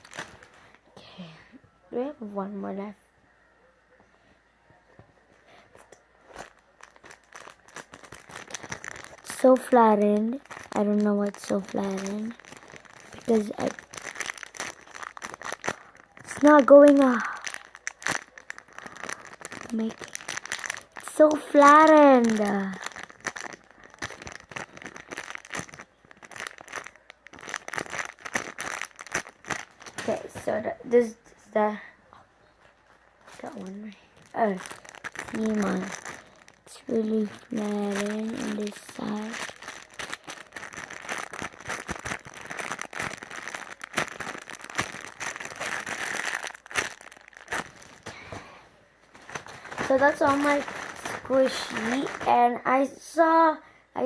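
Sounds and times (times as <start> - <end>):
plastic packaging crinkling: 0.0 - 0.8, 5.5 - 30.7, 32.4 - 52.9.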